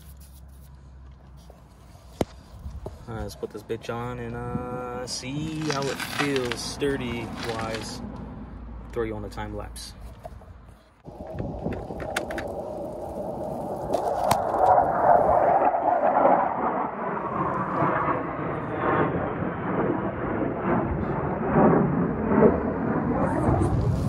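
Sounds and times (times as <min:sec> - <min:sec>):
airplane roar passing overhead: 0:00.0 - 0:24.0.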